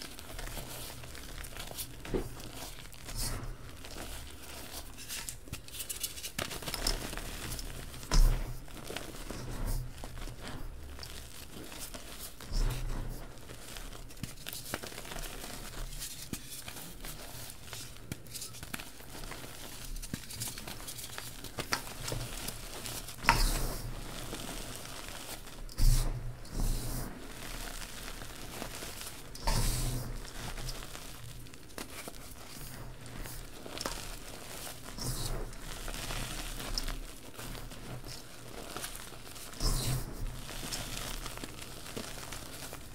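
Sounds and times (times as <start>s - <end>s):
chalk crumbling by hand: 0.0s - 42.9s
powder sifting through fingers: 0.0s - 42.9s.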